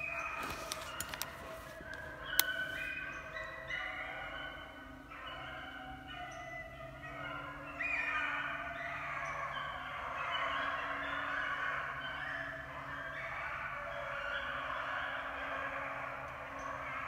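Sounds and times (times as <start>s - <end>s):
beagles baying: 0.0s - 17.0s.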